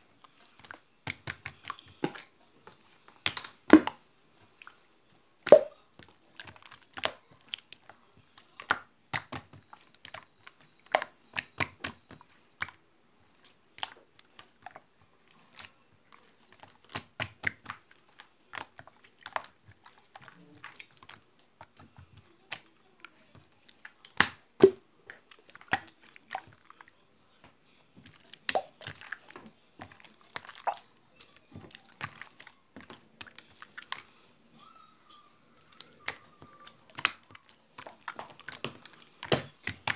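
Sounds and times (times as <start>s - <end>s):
slime squishing with wet pops: 0.0s - 39.9s.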